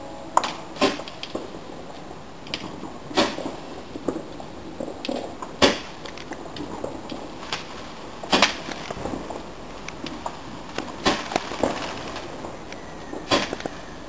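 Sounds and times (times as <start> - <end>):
fireworks bangs: 0.0 - 9.5, 10.1 - 14.0.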